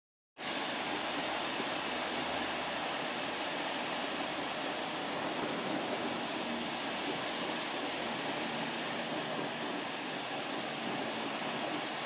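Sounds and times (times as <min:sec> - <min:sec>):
wind noise on microphone: 0:00.4 - 0:12.0.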